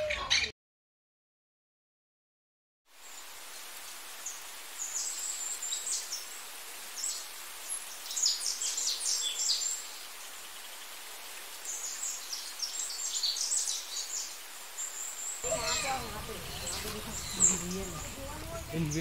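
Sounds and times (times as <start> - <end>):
small birds chirping: 0.0 - 0.5, 3.0 - 19.0
steady background hiss: 3.0 - 19.0.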